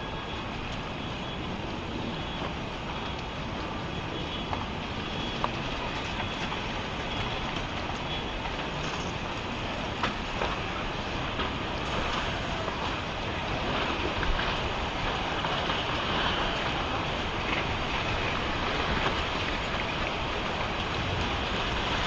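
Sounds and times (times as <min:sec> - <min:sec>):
floodwater rushing rumble: 0:00.0 - 0:22.0.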